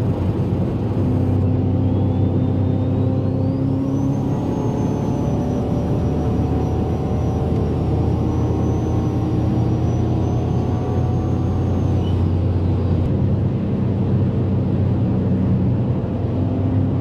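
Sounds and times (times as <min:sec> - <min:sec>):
car engine drone at high speed: 0:00.0 - 0:17.0
road rumble: 0:00.0 - 0:17.0.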